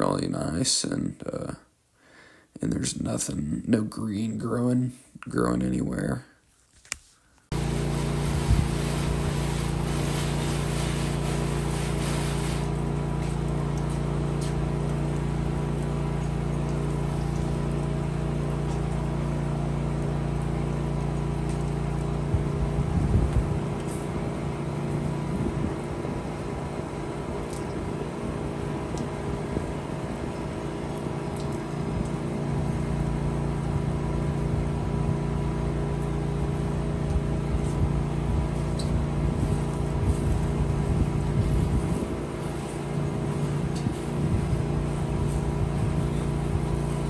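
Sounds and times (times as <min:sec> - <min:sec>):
pressure washer engine droning: 0:07.5 - 0:47.0.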